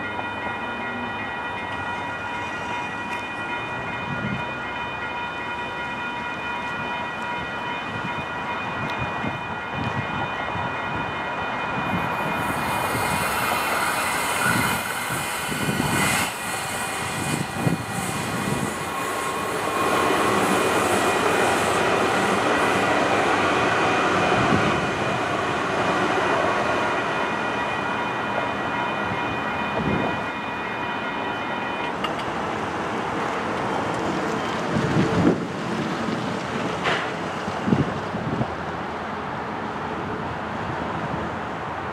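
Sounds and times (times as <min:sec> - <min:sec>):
crossing bells ringing: 0:00.0 - 0:34.8
trains wheels and motors rumbling: 0:00.0 - 0:41.9.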